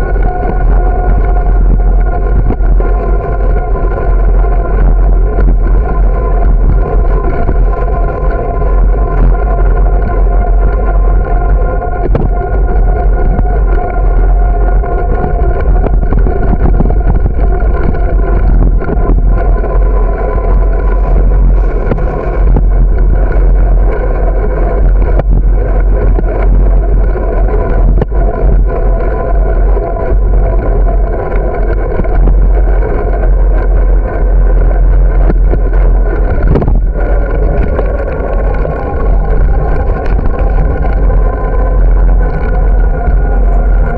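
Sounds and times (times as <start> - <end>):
wind and rolling rumble: 0.0 - 43.9.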